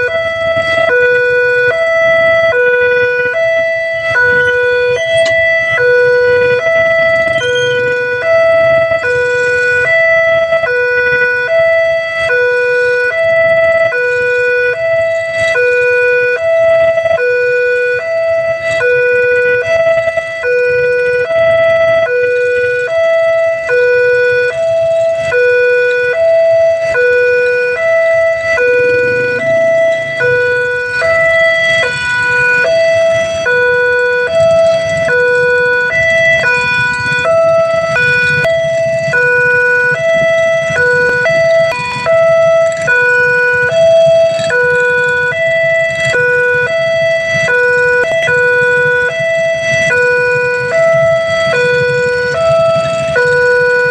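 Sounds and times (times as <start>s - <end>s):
level crossing two-tone alarm: 0.0s - 53.9s.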